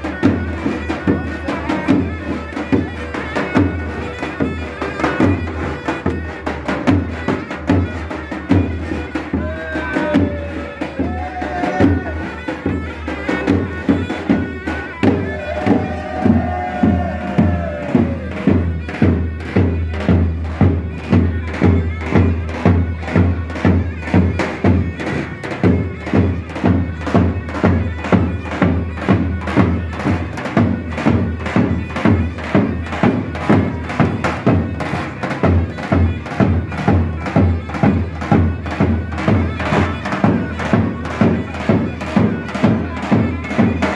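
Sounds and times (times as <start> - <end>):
reedy wind instrument melody: 0.0 - 43.9
steady drum beat: 0.0 - 43.9.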